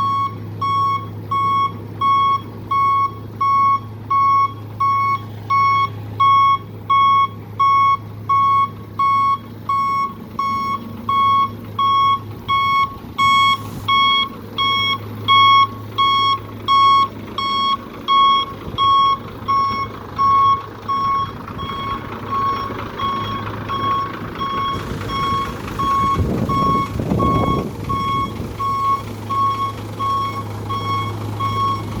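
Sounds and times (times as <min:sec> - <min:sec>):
truck engine humming: 0:00.0 - 0:32.0
truck reversing alarm beeping: 0:00.0 - 0:32.0.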